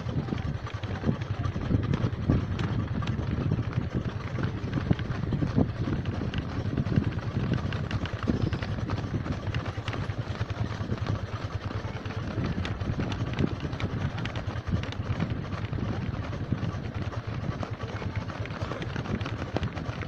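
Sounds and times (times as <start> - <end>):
runners' footsteps on dirt road: 0.0 - 20.0
vehicle engine running low: 0.0 - 20.0.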